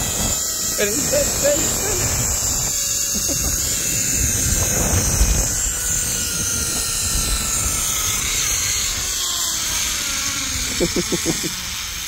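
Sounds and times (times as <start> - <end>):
wind buffeting microphone: 0.0 - 10.9
zip-line pulleys whirring on cable: 0.0 - 12.0.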